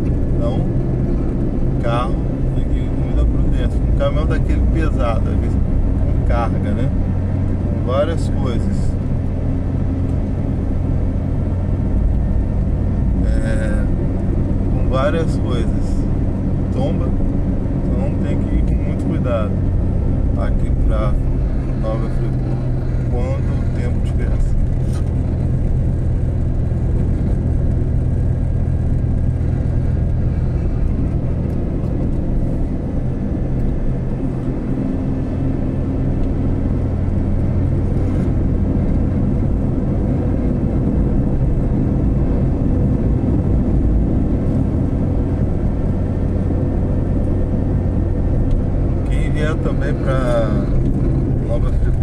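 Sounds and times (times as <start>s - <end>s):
car engine and tyre drone: 0.0s - 52.0s.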